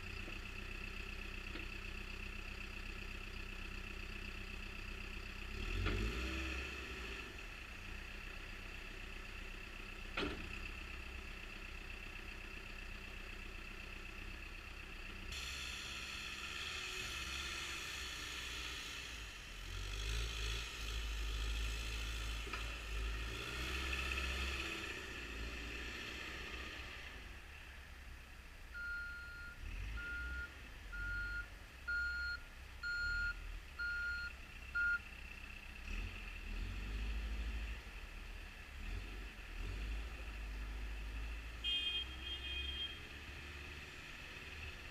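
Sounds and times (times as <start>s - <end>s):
diesel engine running: 0.0s - 38.7s.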